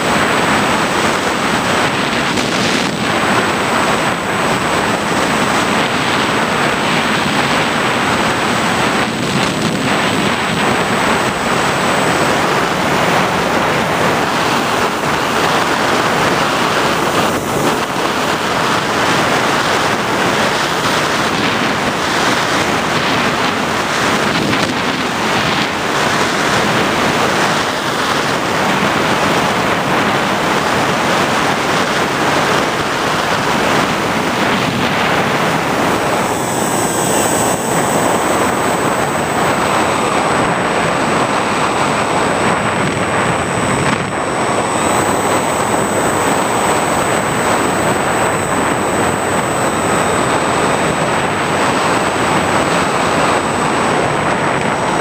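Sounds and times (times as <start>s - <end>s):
thin high whine: 0.0s - 55.0s
wind rushing over microphone: 0.0s - 55.0s.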